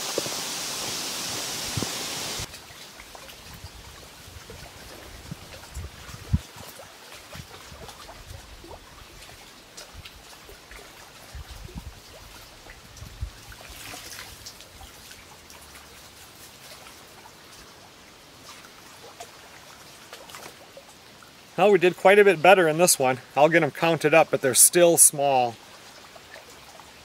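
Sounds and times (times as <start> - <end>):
water splashing and trickling: 0.0 - 27.0.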